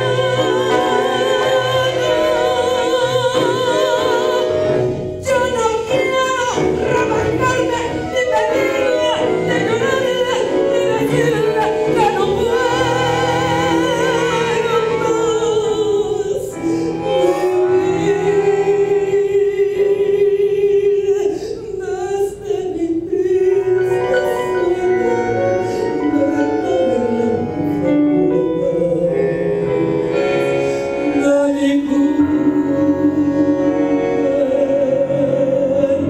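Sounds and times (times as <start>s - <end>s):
instrumental accompaniment: 0.0s - 21.0s, 21.8s - 36.0s
woman singing into microphone: 0.0s - 36.0s.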